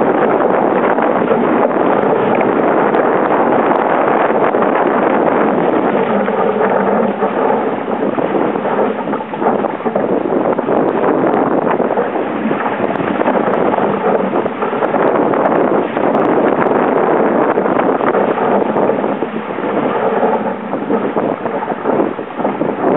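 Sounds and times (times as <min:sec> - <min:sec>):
water rushing past hull: 0:00.0 - 0:22.9
wind buffeting microphone: 0:00.0 - 0:22.9.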